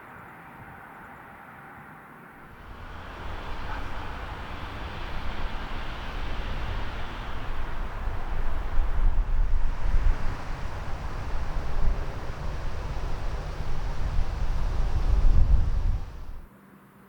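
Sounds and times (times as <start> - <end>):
train wheels rumbling: 2.5 - 16.5.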